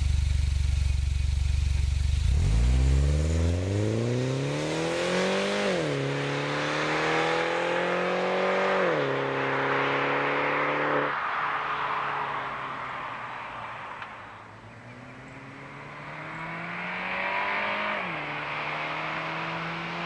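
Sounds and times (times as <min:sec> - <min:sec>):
car accelerating hard: 0:02.2 - 0:20.0.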